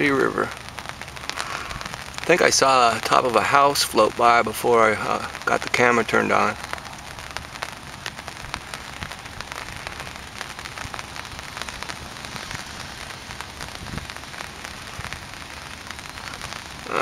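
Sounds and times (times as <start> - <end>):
rain falling: 0.0 - 17.0
raindrop ticks: 0.0 - 17.0.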